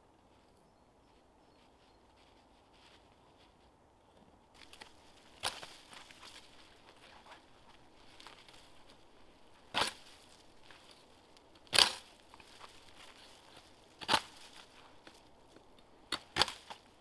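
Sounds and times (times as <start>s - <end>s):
dry branches rustling and crackling: 1.6s - 17.0s.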